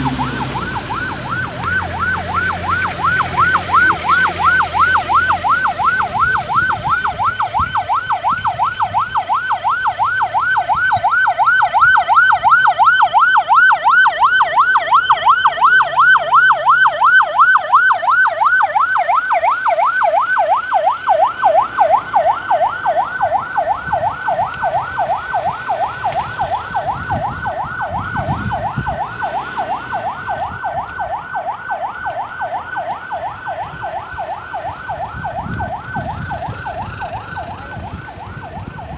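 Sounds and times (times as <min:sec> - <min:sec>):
siren fast yelp: 0:00.0 - 0:38.9.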